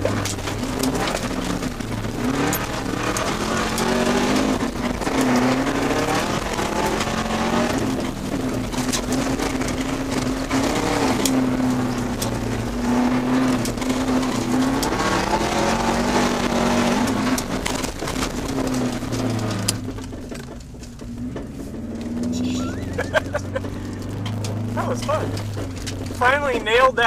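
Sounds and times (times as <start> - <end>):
car engine pulling hard: 0.0 - 27.0
stones ticking against car: 0.0 - 27.0
tyre noise: 0.0 - 27.0.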